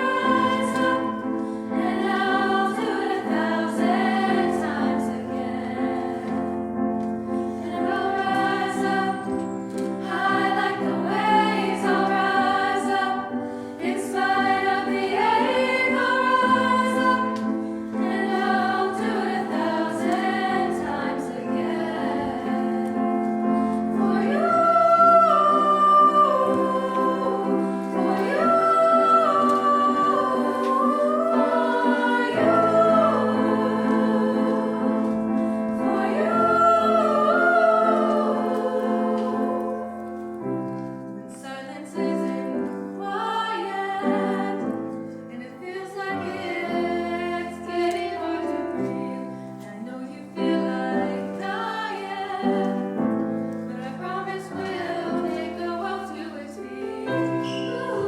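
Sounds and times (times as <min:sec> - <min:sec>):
piano: 0:00.0 - 0:58.0
women's choir singing: 0:00.0 - 0:58.0.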